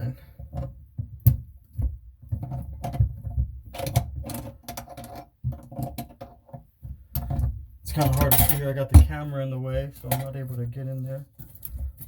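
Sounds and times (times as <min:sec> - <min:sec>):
knocks clicks and rattles: 0:00.4 - 0:10.4.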